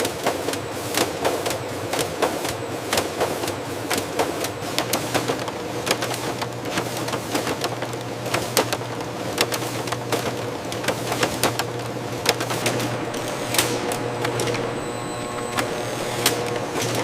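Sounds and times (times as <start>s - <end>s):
factory machinery humming: 0.0s - 17.0s
machinery clicks and clatter: 0.0s - 17.0s.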